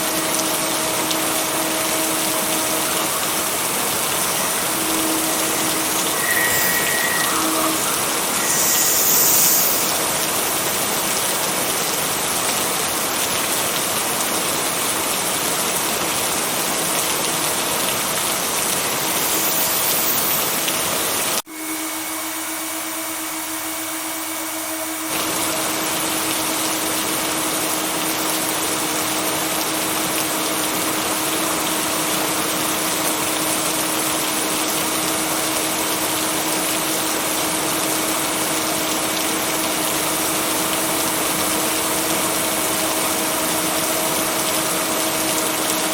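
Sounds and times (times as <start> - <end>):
steady rain hiss: 0.0 - 21.4, 25.1 - 45.9.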